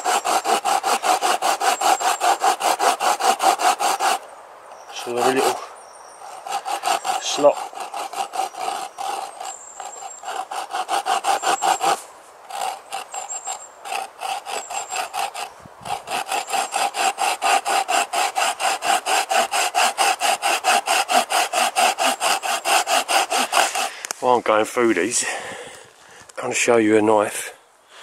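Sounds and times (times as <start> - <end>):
hand saw cutting wood: 0.0 - 4.2, 4.9 - 24.0.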